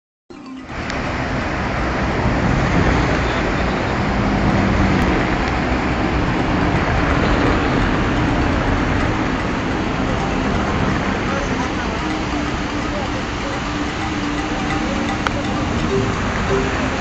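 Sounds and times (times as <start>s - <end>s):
road traffic: 0.4s - 17.0s
river rapids rushing: 0.5s - 17.0s
low engine hum: 0.7s - 17.0s.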